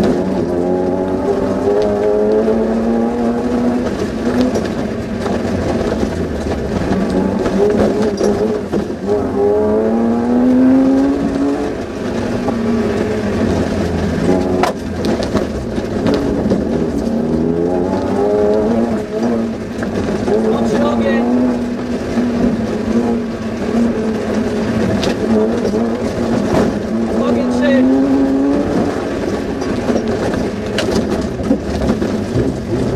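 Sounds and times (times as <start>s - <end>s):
car engine revving hard: 0.0s - 32.9s.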